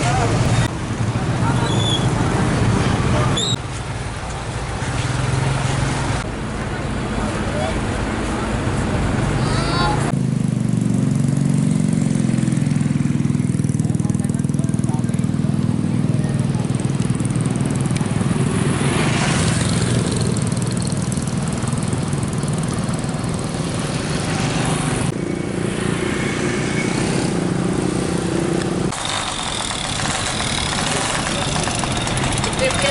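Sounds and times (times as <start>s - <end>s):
road noise: 0.0s - 32.9s
vehicle engines running: 0.0s - 32.9s.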